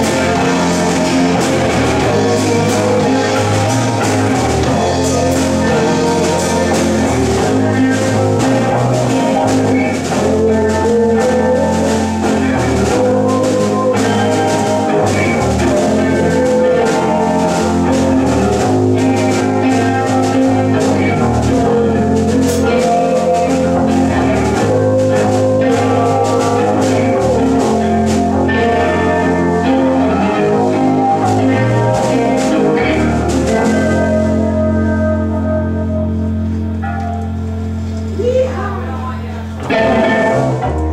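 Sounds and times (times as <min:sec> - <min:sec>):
drum kit with cymbals: 0:00.0 - 0:34.8
electric bass: 0:00.0 - 0:40.9
electric guitar: 0:00.0 - 0:40.9.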